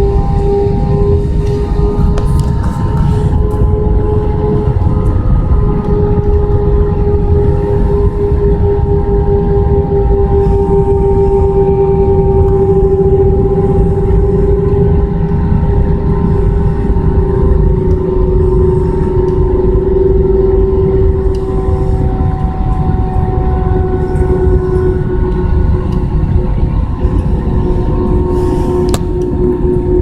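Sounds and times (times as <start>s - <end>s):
jet engines heard from cabin: 0.0s - 30.0s.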